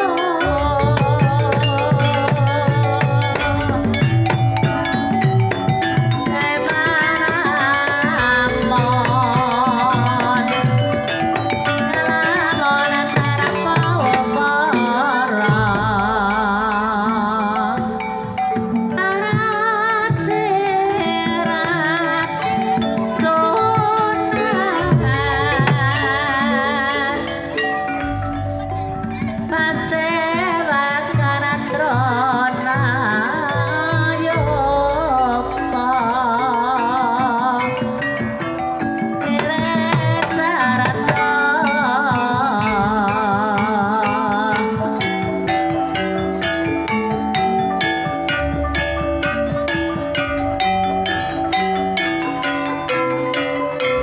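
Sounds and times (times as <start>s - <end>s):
hand drum strokes: 0.0s - 54.0s
ornamented female vocal: 0.0s - 54.0s
ringing metallophone tones: 0.0s - 54.0s.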